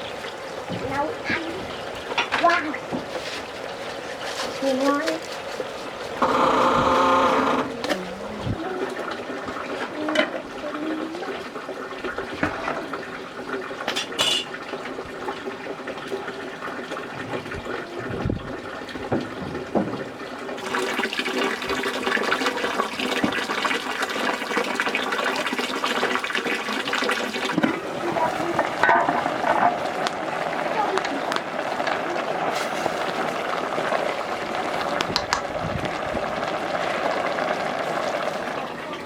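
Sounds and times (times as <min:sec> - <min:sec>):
water running and splashing: 0:00.0 - 0:39.0.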